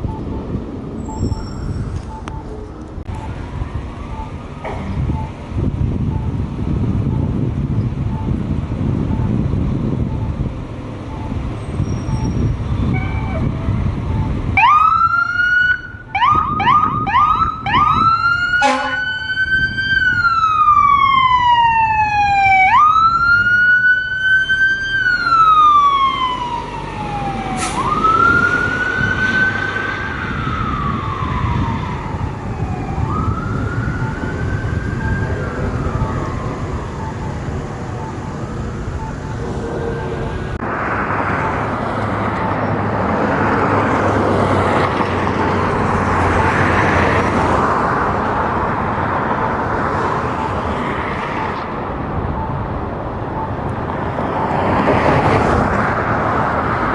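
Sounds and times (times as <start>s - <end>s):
traffic rumble: 0.0s - 56.9s
fire engine siren yelping and wailing: 11.1s - 56.9s.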